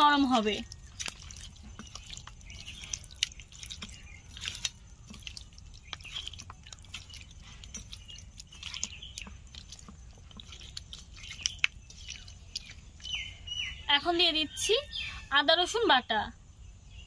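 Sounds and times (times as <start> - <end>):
hand squelching wet meat: 0.0 - 13.9.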